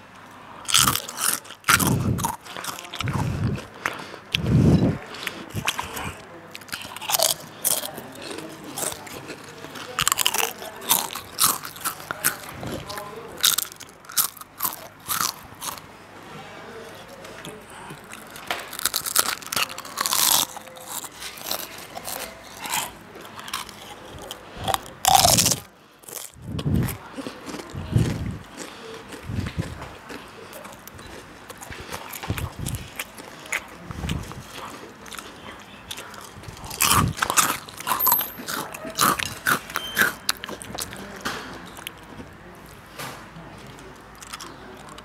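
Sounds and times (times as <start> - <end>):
potato chips crunching: 0.7 - 15.8, 17.4 - 42.1, 43.9 - 45.0.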